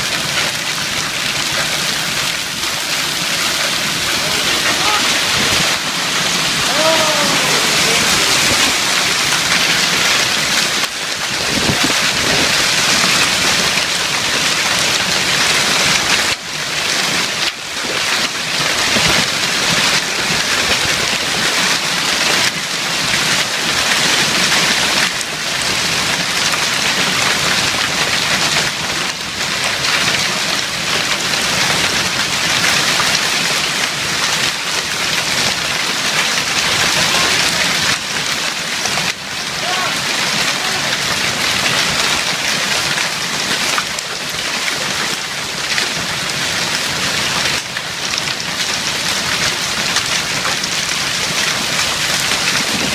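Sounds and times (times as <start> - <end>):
hail and rain pelting: 0.0 - 52.9.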